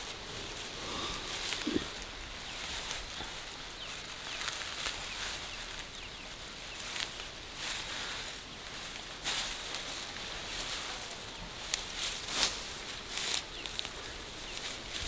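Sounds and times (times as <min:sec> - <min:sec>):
grass and foliage rustling: 0:00.0 - 0:15.0.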